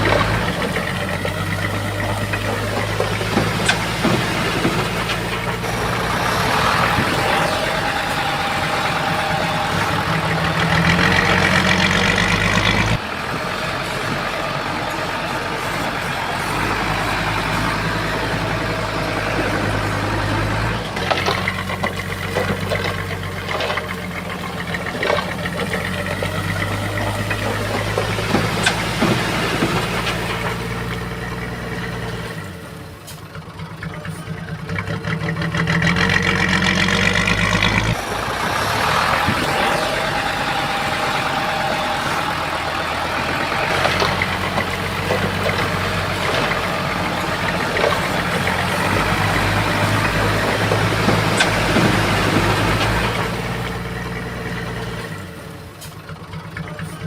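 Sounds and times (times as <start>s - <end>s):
metal clanks and knocks: 0.0s - 32.4s, 35.8s - 55.2s
bulldozer diesel engine running: 0.0s - 57.0s.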